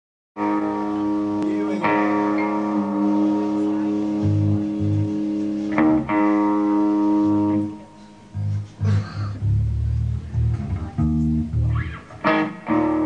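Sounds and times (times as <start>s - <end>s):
bass guitar notes: 0.4s - 13.0s.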